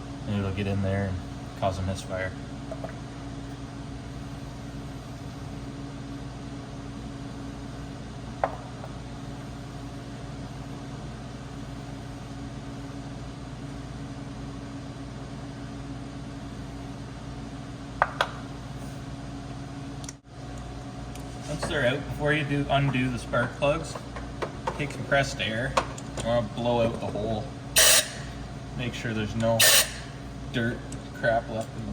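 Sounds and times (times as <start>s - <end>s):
low mechanical hum: 0.0s - 31.9s.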